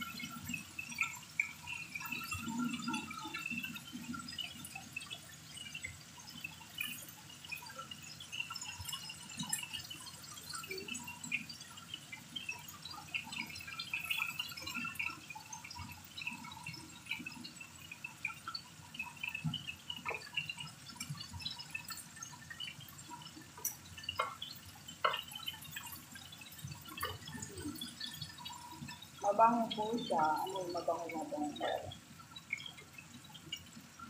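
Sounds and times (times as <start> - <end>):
chicken frying in oil: 0.0 - 34.0.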